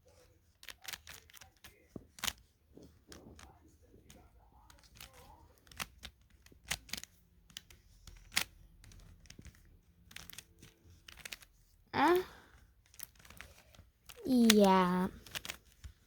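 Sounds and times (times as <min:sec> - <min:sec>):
puzzle cube clicking: 0:00.5 - 0:16.0.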